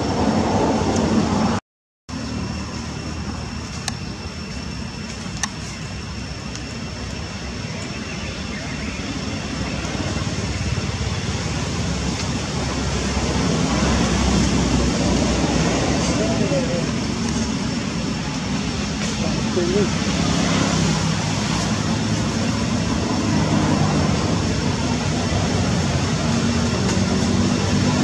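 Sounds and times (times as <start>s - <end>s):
outdoor rumble and hiss: 0.0s - 28.0s.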